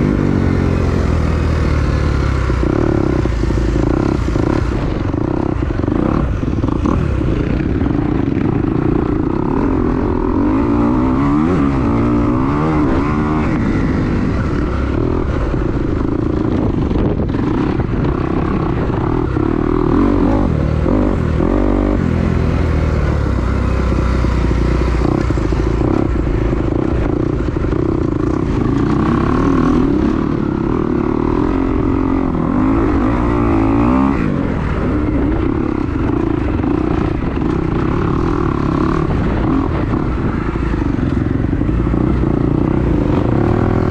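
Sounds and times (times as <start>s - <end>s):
motocross engine revving: 0.0s - 43.9s
wind rumble on microphone: 0.0s - 43.9s.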